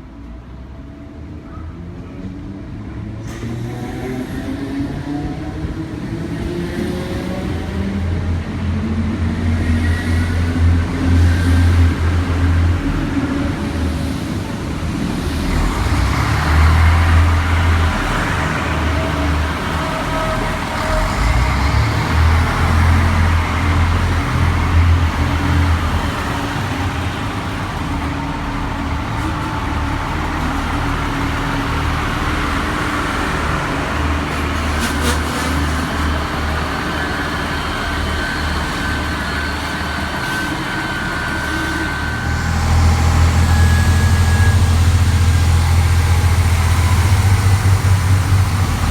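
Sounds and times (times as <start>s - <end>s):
heavy vehicle rumbling: 0.0s - 48.9s.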